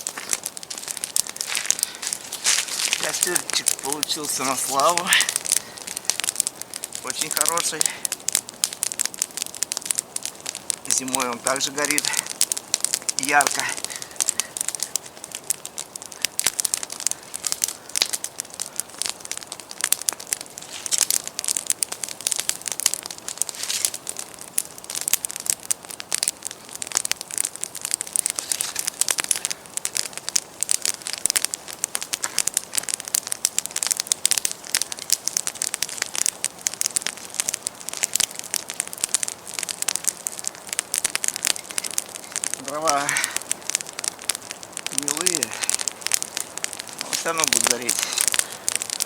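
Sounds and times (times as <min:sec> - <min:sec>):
campfire crackling and popping: 0:00.0 - 0:49.0
soft hiss: 0:00.0 - 0:49.0.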